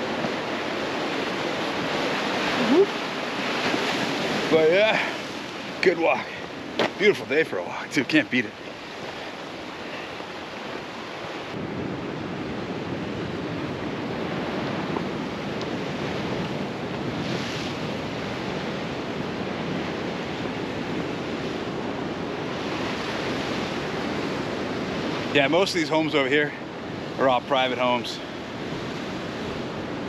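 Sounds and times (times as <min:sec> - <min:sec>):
surf breaking on rocky shore: 0:00.0 - 0:30.0
wind buffeting microphone: 0:00.0 - 0:30.0.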